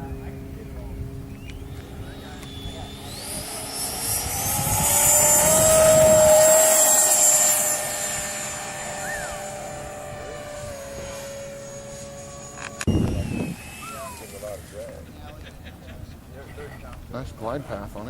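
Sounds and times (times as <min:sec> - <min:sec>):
model airplane motor whining: 0:00.2 - 0:15.1.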